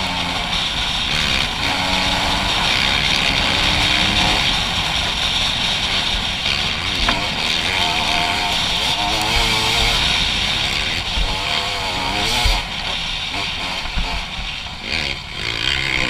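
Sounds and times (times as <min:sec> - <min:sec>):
dirt bike engine running: 0:00.0 - 0:16.0
wind and road noise: 0:00.0 - 0:16.0.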